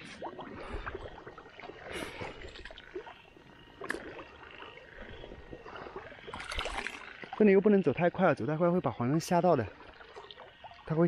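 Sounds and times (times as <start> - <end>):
footsteps wading through water: 0.0 - 7.6, 9.6 - 11.0.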